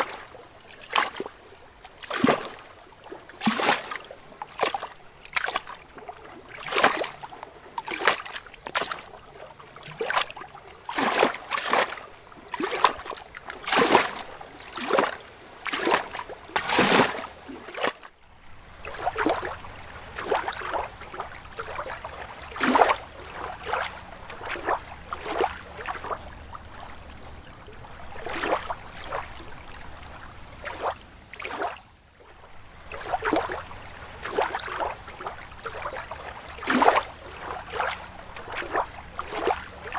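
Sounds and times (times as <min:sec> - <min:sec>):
water lapping and sloshing: 0:00.0 - 0:39.9.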